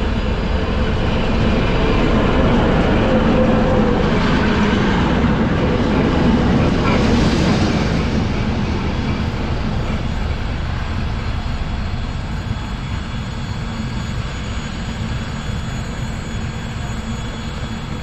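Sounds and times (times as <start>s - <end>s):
diesel locomotives rumbling: 0.0s - 18.0s.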